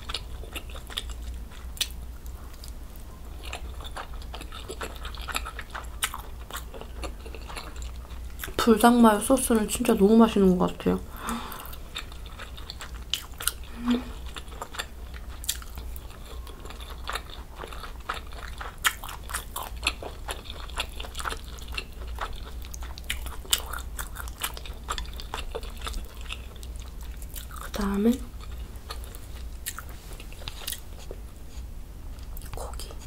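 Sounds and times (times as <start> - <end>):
chewing with wet mouth clicks: 0.0 - 8.7, 11.7 - 27.8, 28.4 - 31.2, 32.2 - 33.0.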